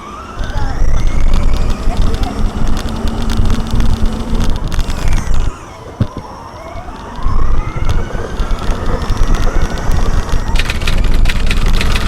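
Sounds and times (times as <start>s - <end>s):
road and engine rumble: 0.0s - 12.0s
vehicle siren wailing: 0.0s - 12.0s.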